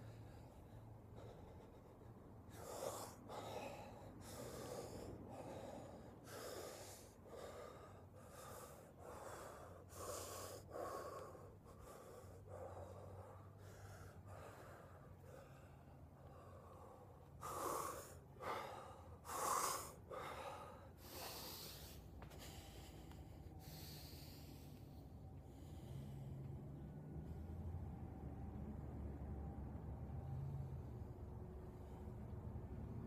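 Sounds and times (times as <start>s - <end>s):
man breathing forcefully: 0.0s - 27.7s.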